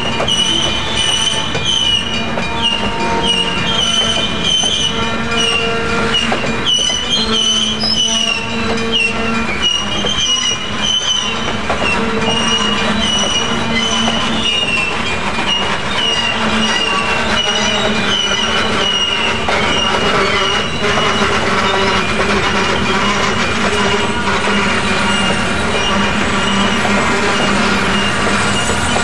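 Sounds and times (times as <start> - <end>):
train wheels squealing on rails: 0.0 - 29.0.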